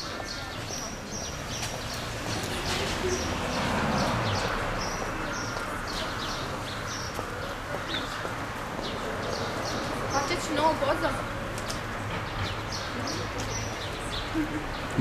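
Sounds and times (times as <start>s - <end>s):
small birds chirping: 0.0s - 15.0s
street background noise: 0.0s - 15.0s.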